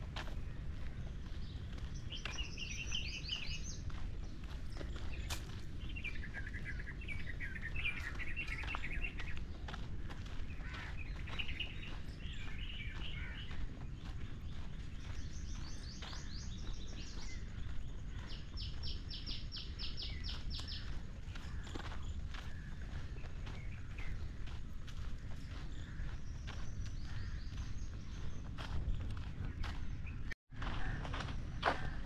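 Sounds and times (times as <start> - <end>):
birds chirping: 0.0 - 32.0
footsteps on gravel: 0.0 - 32.0.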